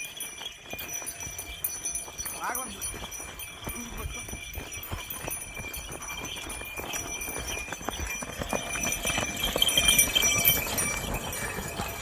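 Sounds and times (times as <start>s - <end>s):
hooves clopping: 0.0s - 12.0s
jingling: 0.0s - 12.0s
running feet: 0.0s - 12.0s.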